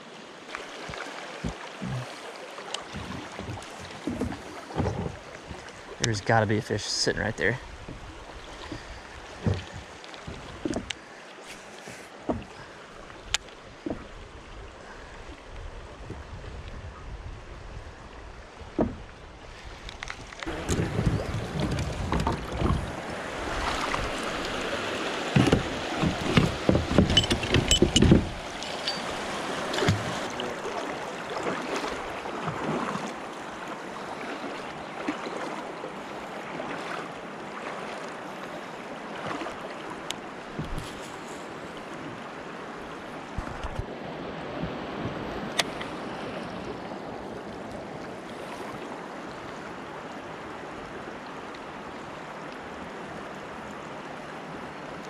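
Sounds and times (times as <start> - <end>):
water splashing: 0.0 - 15.2, 18.6 - 49.8
river water rushing: 0.0 - 16.0, 17.9 - 55.0.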